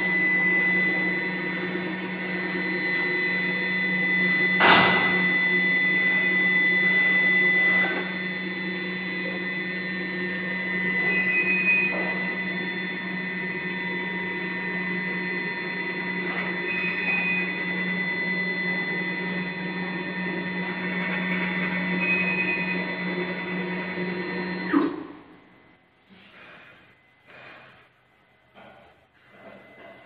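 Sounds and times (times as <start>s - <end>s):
bottle filling machine hum: 0.0s - 27.7s.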